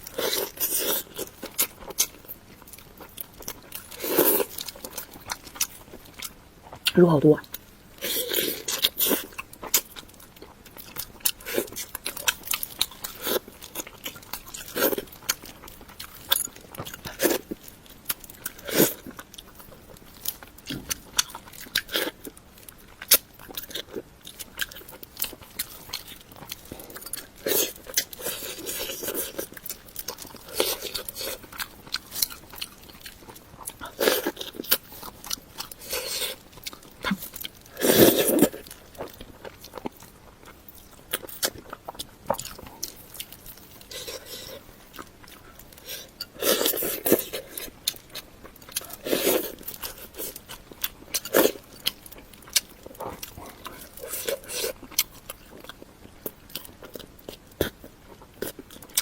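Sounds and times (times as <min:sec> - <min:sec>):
person chewing with crunches: 0:00.0 - 0:59.0.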